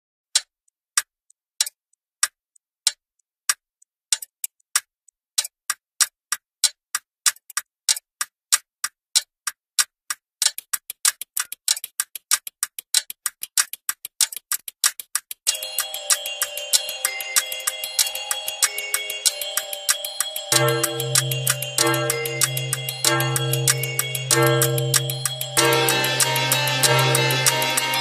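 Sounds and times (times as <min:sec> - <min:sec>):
sharp ticks: 0:00.4 - 0:28.0.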